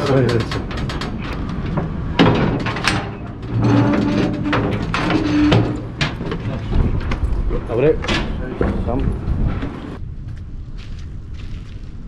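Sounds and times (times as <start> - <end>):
cage rattling and clanking: 0.0 - 10.0.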